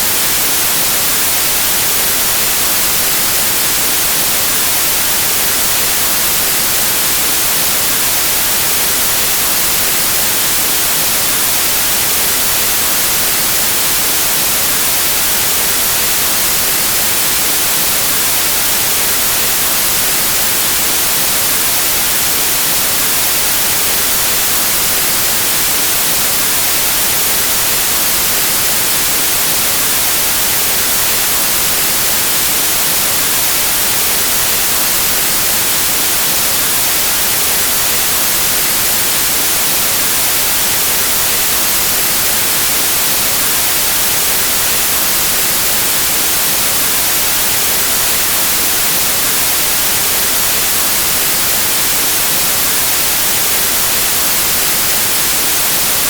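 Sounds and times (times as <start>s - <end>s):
white noise static hiss: 0.0s - 56.0s.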